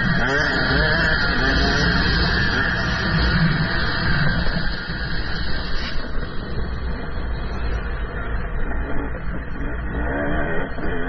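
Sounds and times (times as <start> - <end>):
motocross bike engine: 0.0 - 11.0
wind rumble on microphone: 0.0 - 11.0.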